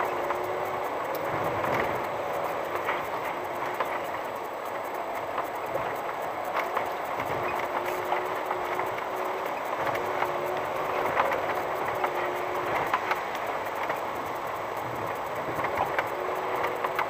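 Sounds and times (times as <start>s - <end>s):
van engine running low: 0.0s - 17.0s.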